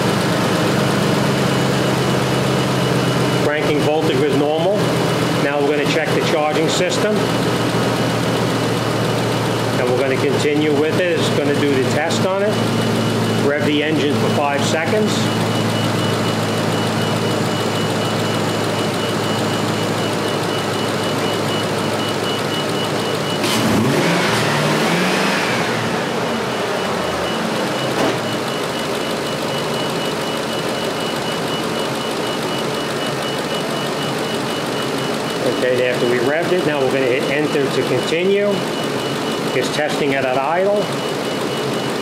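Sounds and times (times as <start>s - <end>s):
pickup engine idling and revving: 0.0s - 42.0s.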